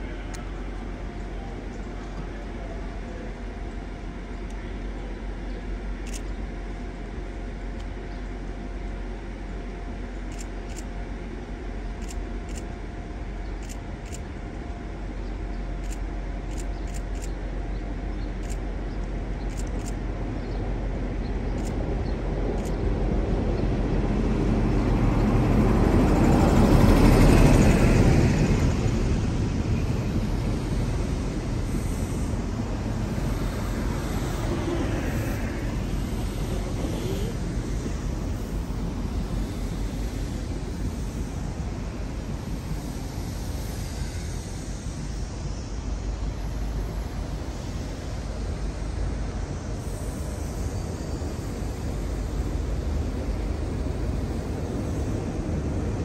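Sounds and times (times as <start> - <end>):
diesel train rumble: 0.0 - 56.0.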